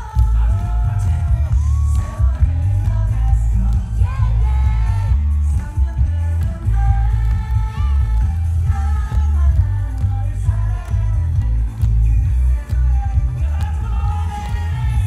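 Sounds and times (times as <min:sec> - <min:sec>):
dance-pop music with heavy bass: 0:00.0 - 0:15.0
man singing into microphone: 0:00.0 - 0:15.0.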